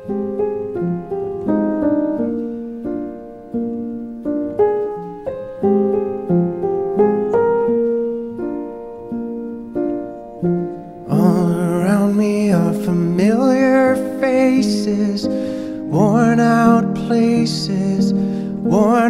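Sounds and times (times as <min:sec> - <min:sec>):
slow piano notes and chords: 0:00.0 - 0:19.0.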